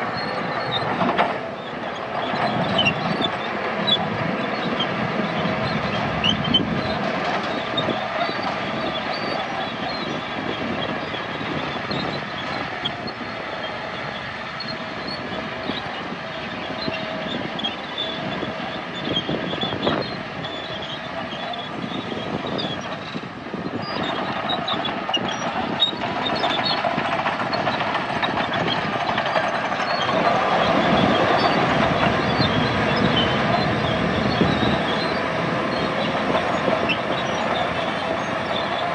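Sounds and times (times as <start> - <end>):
bulldozer diesel engine running: 0.0 - 38.9
steel tracks clanking and squeaking: 0.0 - 38.9.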